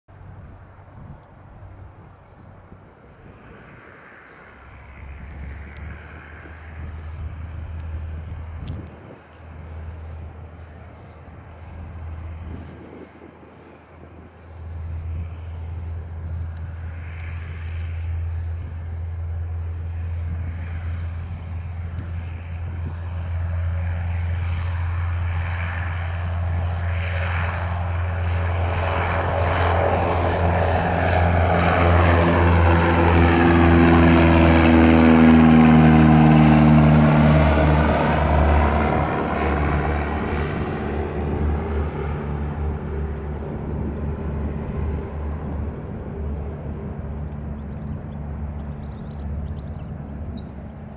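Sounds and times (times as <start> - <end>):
propeller plane engine taking off: 0.1 - 50.9.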